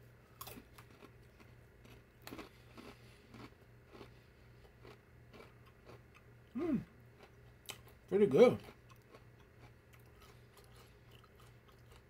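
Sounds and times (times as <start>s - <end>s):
low steady hum: 0.0s - 12.0s
person chewing crunchy snack: 0.3s - 12.0s.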